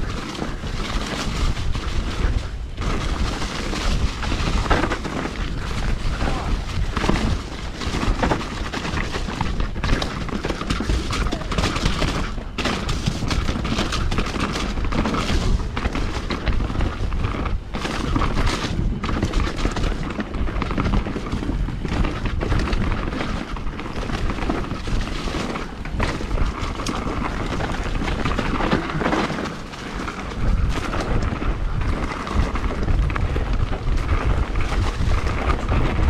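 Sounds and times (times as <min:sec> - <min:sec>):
bike knocking and rattling: 0:00.0 - 0:36.0
bike tyres on dirt: 0:00.0 - 0:36.0
wind buffeting microphone: 0:00.0 - 0:36.0.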